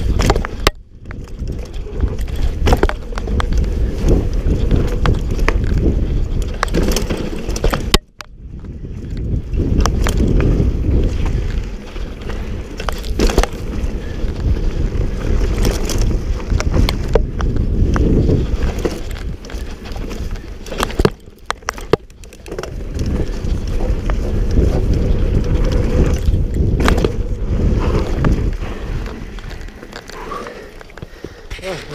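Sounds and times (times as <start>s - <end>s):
bike clattering over bumps: 0.0s - 31.9s
tyre rumble on dirt: 0.0s - 31.9s
wind buffeting microphone: 0.0s - 31.9s.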